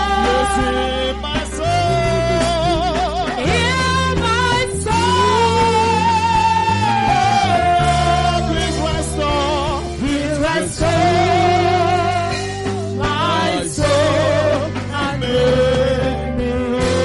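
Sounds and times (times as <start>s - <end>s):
person singing gospel with vibrato: 0.0s - 17.0s.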